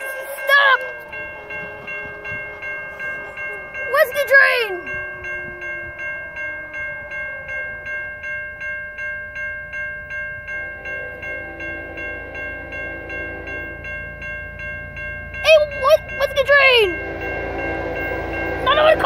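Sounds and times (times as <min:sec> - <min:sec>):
low rumble of approaching train: 0:00.0 - 0:19.0
railroad crossing bell ringing: 0:00.0 - 0:19.0.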